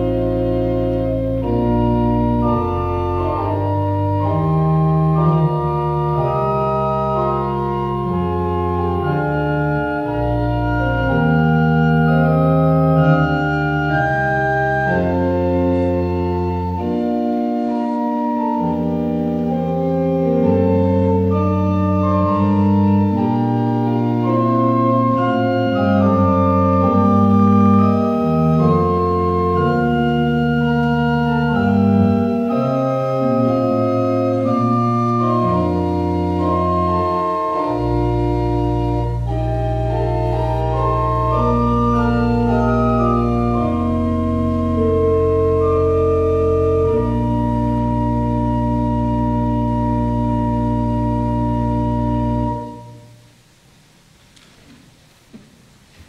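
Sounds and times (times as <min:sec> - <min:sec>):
church organ chords: 0:00.0 - 0:53.3.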